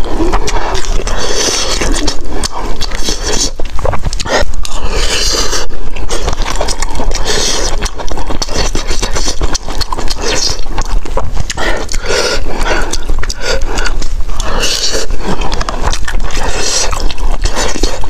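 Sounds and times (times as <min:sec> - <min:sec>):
wet chewing: 0:00.0 - 0:18.0.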